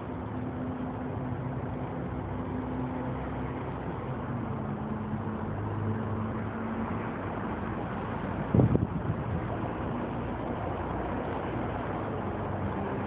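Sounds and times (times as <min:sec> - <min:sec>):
passing engine hums: 0:00.0 - 0:13.0
road traffic rumble: 0:00.0 - 0:13.0.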